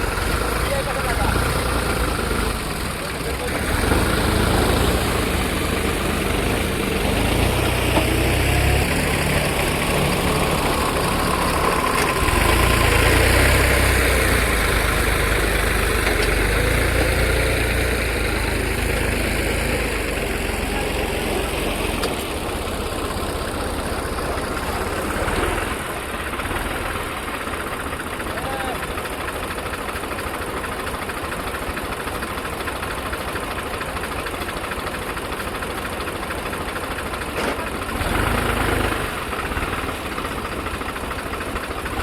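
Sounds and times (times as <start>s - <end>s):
diesel tractor engine running: 0.0s - 42.0s.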